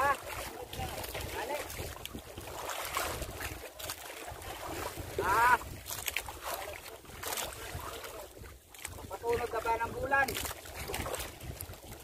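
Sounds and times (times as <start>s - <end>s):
water slapping against boat: 0.0s - 12.0s
wind on microphone: 0.0s - 12.0s.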